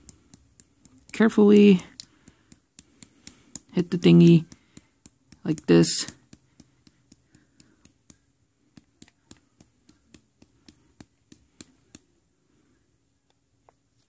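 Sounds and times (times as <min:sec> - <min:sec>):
hand tapping plastic container: 0:00.0 - 0:12.1.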